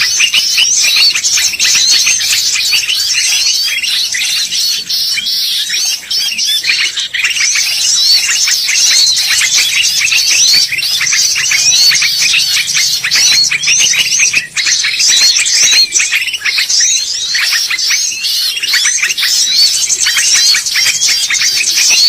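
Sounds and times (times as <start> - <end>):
bird chirping song: 0.0 - 22.0.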